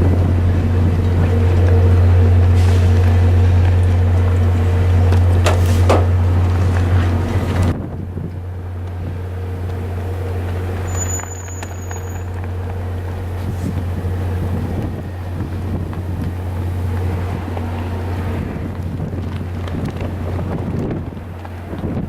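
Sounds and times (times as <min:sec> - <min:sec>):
diesel locomotive humming: 0:00.0 - 0:22.0
wind noise on microphone: 0:00.0 - 0:22.0.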